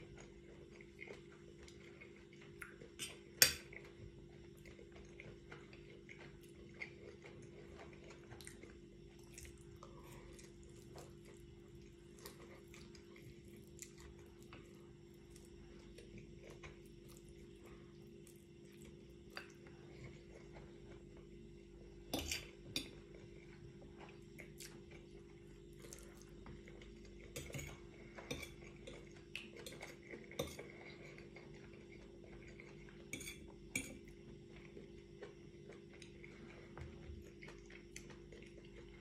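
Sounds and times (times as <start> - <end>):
chewing and slurping noodles: 0.0 - 21.1, 22.3 - 39.0.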